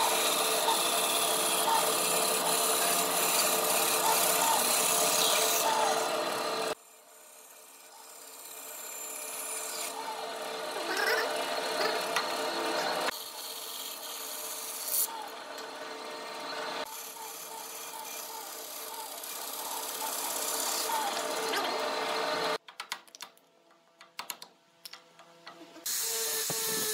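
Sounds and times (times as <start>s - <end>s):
bandsaw cutting wood: 0.0s - 15.7s, 16.4s - 22.6s, 25.8s - 26.9s.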